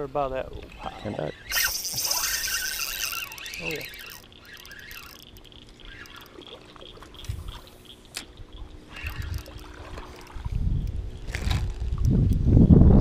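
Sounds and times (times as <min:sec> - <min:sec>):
faint steady hum: 0:00.0 - 0:13.0
water trickling and splashing: 0:01.5 - 0:12.1.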